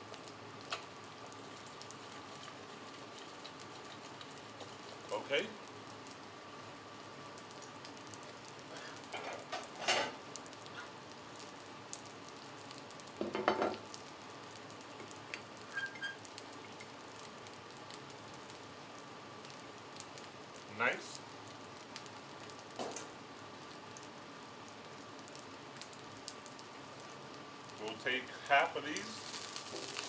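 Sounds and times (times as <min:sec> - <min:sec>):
chicken sizzling on a griddle: 0:00.0 - 0:30.0.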